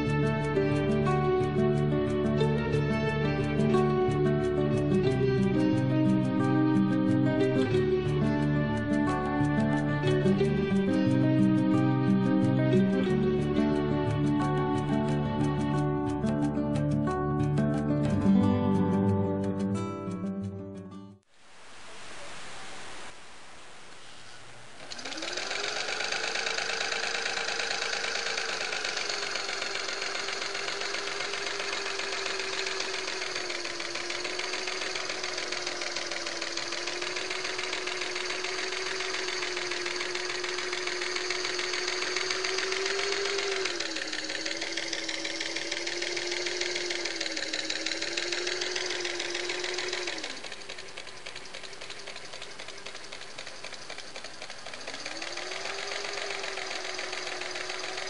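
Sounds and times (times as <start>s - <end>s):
sewing machine running: 0.0s - 18.3s, 24.8s - 58.0s.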